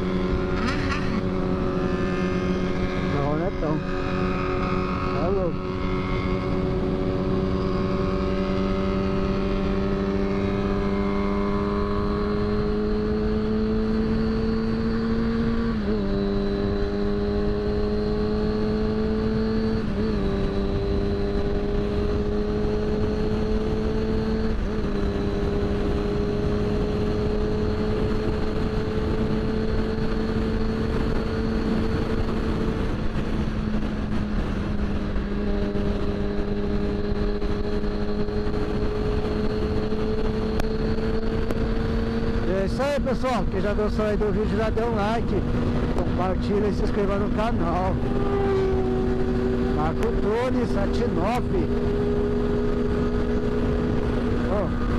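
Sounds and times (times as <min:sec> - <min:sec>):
wind rush: 0:00.0 - 0:16.0, 0:19.8 - 0:54.9
motorcycle engine running: 0:00.0 - 0:54.9.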